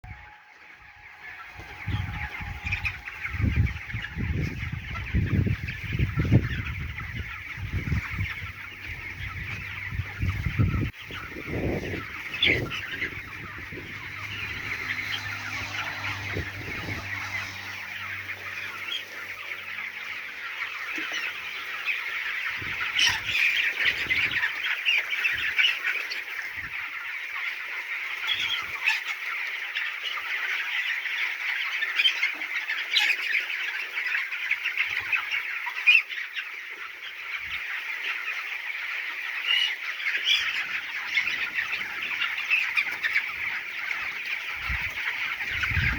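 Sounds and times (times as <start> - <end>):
chicks cheeping: 0.0 - 45.9.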